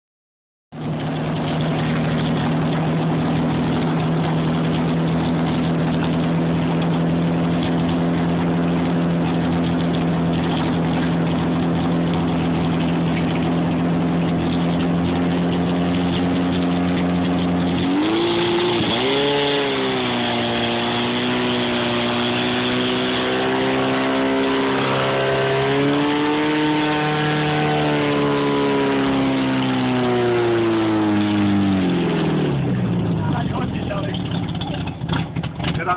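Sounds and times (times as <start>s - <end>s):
fire pump engine running: 0.7s - 35.9s.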